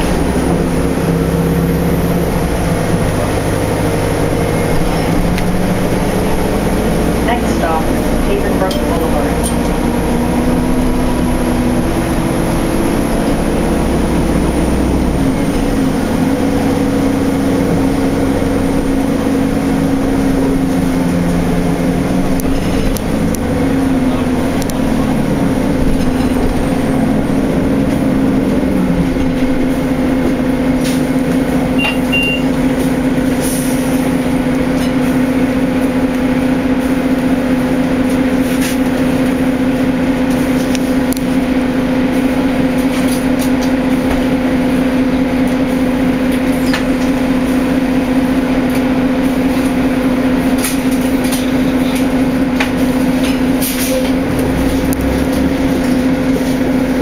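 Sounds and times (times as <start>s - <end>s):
bus diesel engine droning: 0.0s - 57.0s.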